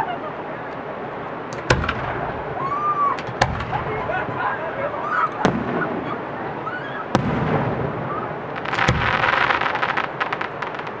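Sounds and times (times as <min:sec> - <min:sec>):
fireworks crackling: 0:00.7 - 0:11.0
fireworks bangs: 0:01.4 - 0:11.0.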